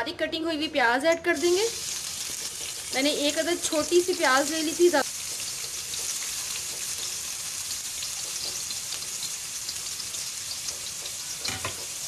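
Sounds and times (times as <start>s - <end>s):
onion sizzling in hot oil: 1.2s - 12.0s.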